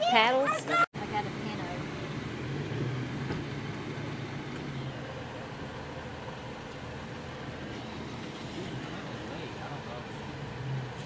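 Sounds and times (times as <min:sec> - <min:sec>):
vehicle engine and road hum: 0:00.0 - 0:11.0.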